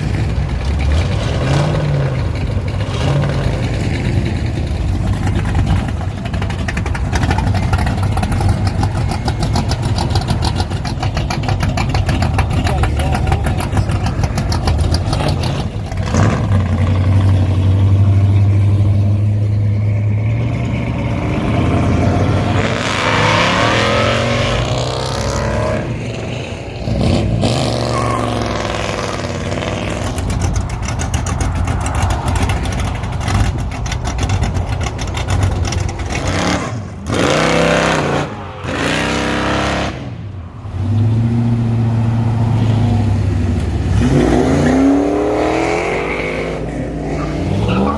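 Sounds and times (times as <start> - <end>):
cars accelerating engines revving: 0.0 - 47.9.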